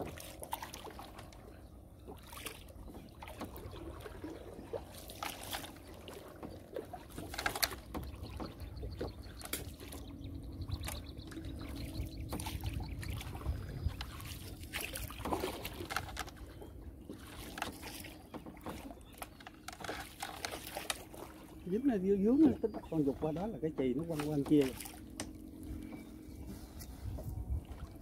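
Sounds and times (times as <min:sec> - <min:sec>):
small water splashes: 0:00.0 - 0:26.0, 0:27.2 - 0:28.0.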